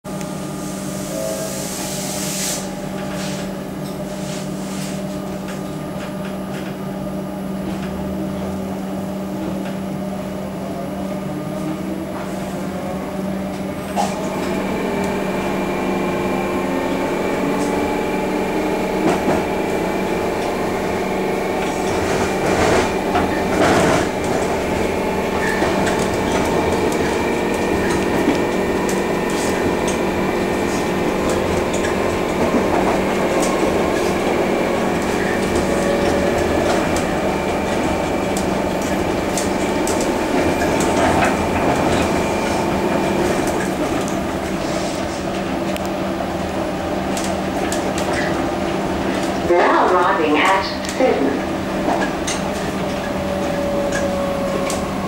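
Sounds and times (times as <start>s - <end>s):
electric train motor whine: 5.2s - 55.0s.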